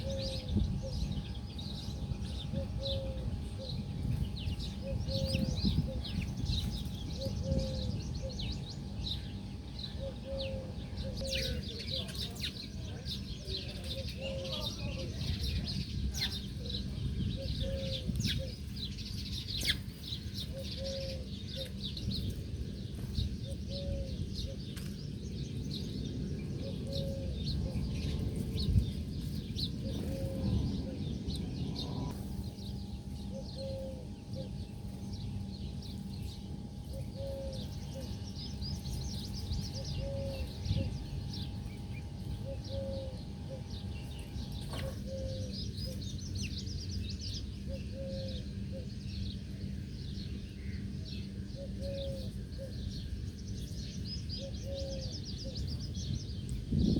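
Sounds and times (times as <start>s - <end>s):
small birds chirping: 0.0s - 56.9s
steady low rumble: 0.0s - 56.9s.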